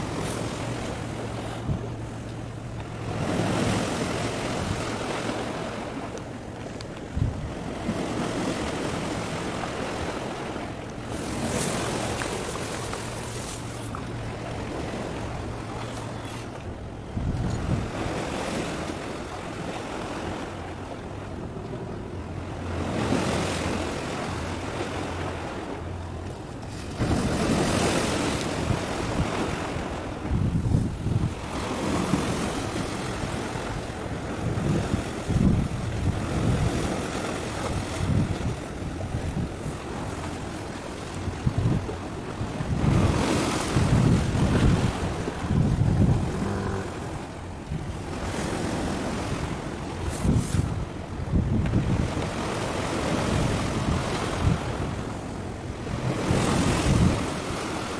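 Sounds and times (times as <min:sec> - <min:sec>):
sea waves washing in: 0:00.0 - 0:57.9
wind gusting on microphone: 0:00.0 - 0:57.9.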